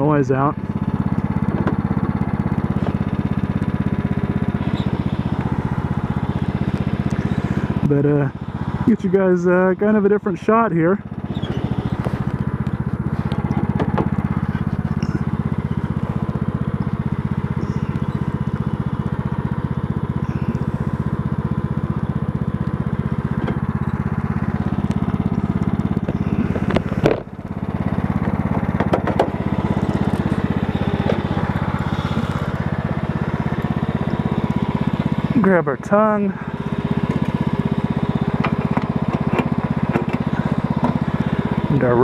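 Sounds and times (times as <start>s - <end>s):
riding mower engine running: 0.0s - 42.0s.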